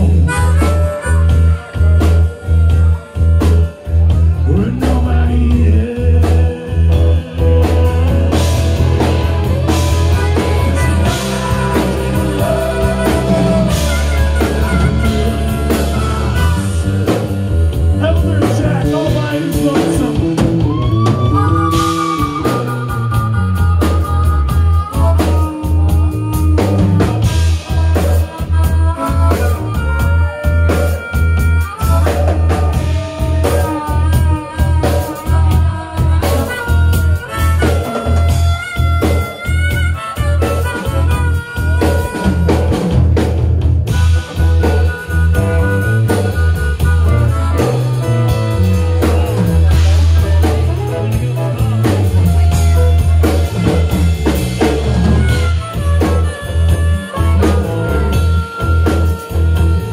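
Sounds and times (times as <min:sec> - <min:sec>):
bass guitar: 0:00.0 - 0:59.9
drum kit steady beat: 0:00.0 - 0:59.9
electric guitars: 0:00.0 - 0:59.9
harmonica bending notes: 0:00.0 - 0:59.9.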